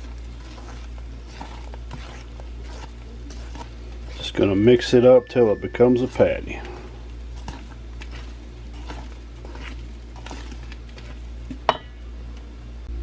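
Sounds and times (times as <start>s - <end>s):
stirring and scraping thick wet mix: 0.0s - 11.7s.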